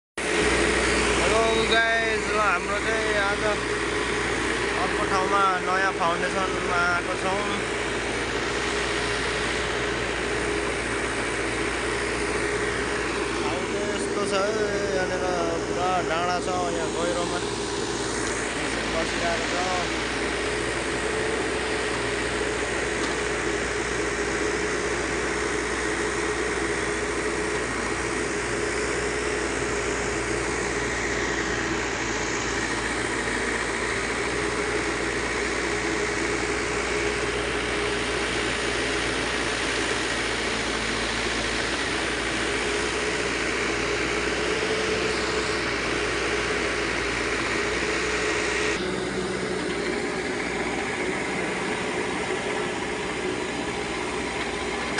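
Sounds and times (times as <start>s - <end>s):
constant tone: 0.2s - 54.9s
diesel engine running: 0.2s - 54.9s.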